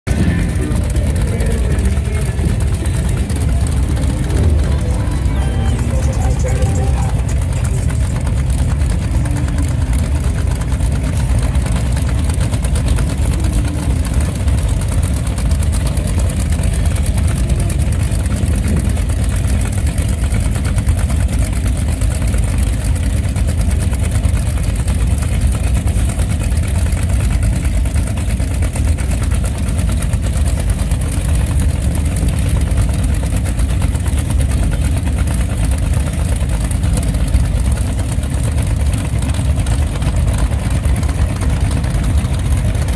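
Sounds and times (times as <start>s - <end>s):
motorcycle engines idling: 0.1s - 42.9s.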